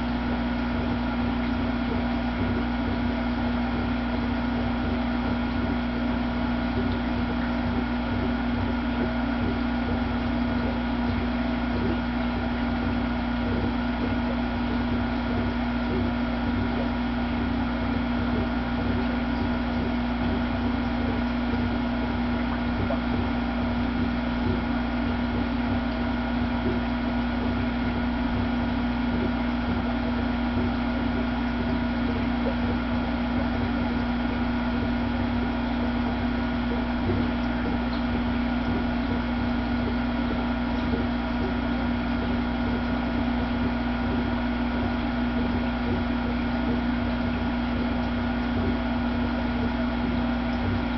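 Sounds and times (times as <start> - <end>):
low electric hum: 0.0 - 50.9.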